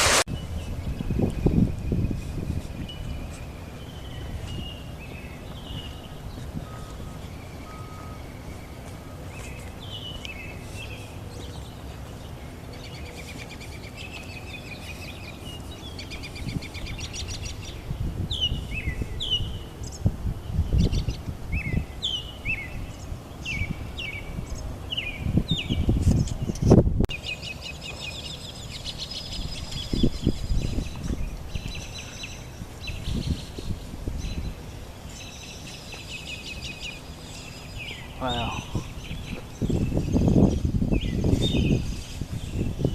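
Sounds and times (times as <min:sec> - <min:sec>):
birds chirping and calling: 0:00.3 - 0:42.9.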